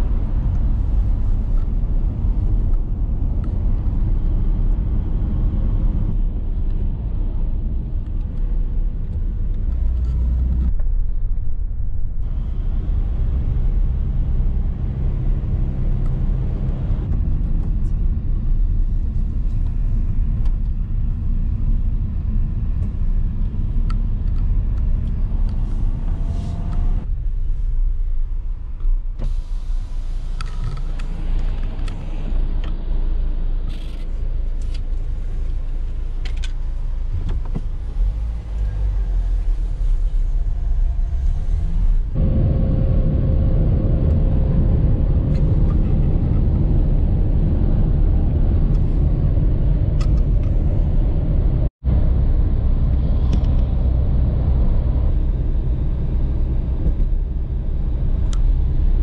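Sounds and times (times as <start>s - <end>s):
van engine and road rumble: 0.0s - 59.0s.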